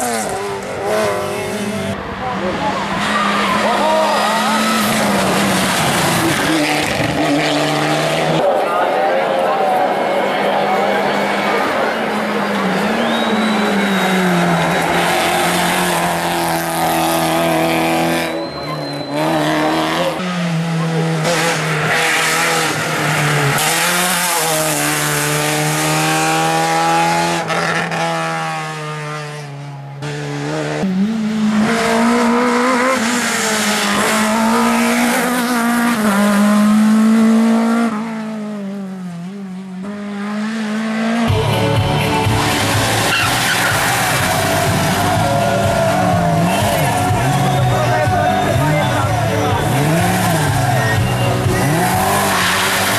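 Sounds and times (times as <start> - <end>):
racing car engine accelerating: 0.0 - 8.5, 9.6 - 52.9.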